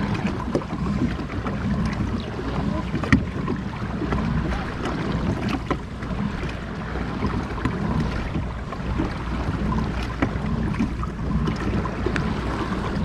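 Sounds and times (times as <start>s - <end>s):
water sloshing: 0.0s - 13.0s
wind buffeting microphone: 0.0s - 13.0s.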